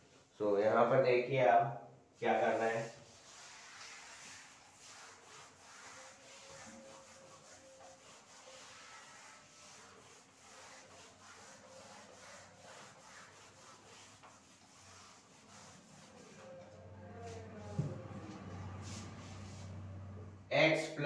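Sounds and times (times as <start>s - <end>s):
eraser rubbing on whiteboard: 2.5s - 19.9s.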